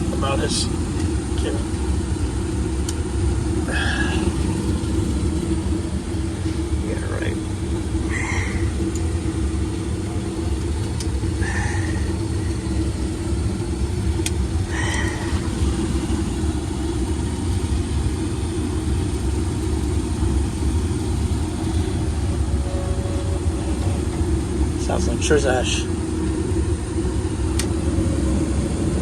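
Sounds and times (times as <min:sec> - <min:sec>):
furnace motor rumbling and humming: 0:00.0 - 0:29.0.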